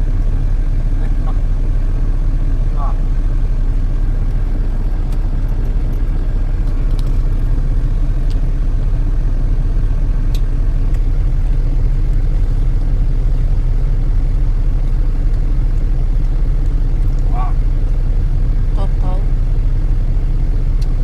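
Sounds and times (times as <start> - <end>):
truck engine and road rumble: 0.0 - 21.0.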